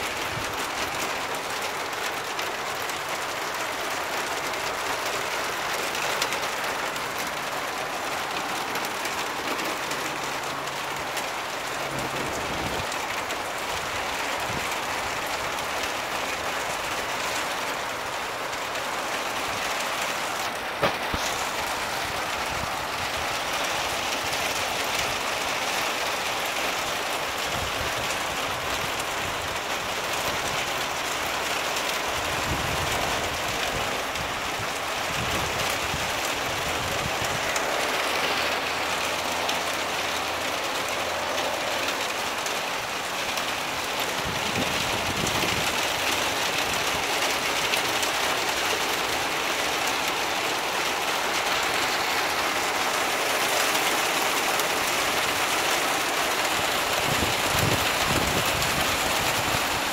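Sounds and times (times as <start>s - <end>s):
rain on leaves and ground: 0.0s - 59.9s
water streaming off roof: 0.0s - 59.9s.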